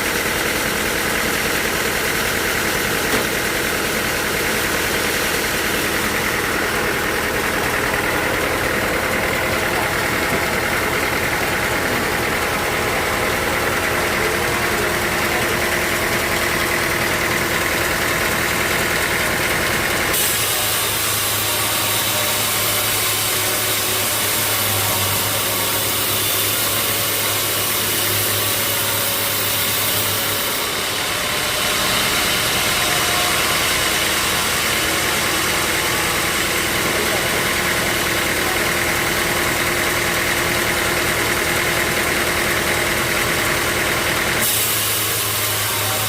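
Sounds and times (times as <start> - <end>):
sawmill machinery drone: 0.0 - 46.0.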